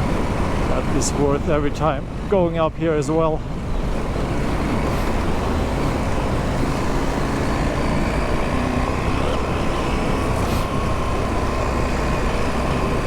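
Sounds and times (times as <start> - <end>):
rush of riding noise: 0.0 - 13.0.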